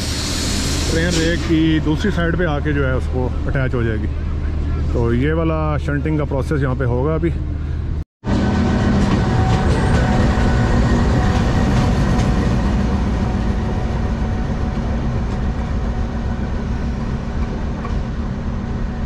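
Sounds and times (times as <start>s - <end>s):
locomotive engine low hum: 0.0s - 19.0s.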